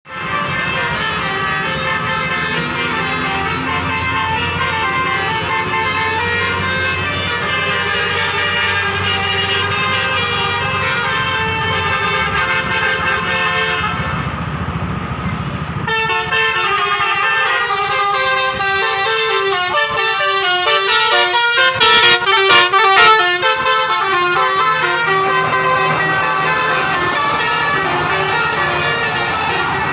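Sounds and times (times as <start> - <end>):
bus horn playing a melody: 0.1 - 14.3, 15.8 - 29.9.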